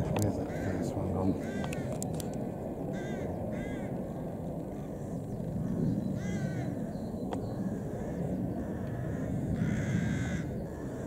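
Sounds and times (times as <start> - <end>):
low rumbling noise: 0.0 - 11.0
crow cawing: 0.4 - 2.1, 2.9 - 6.8, 7.6 - 11.0.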